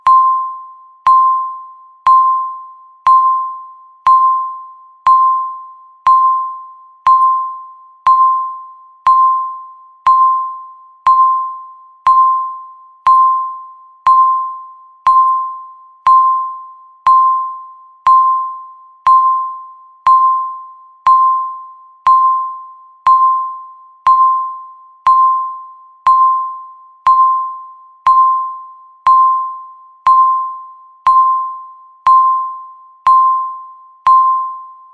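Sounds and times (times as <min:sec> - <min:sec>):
electronic timer beeps: 0:00.0 - 0:34.9.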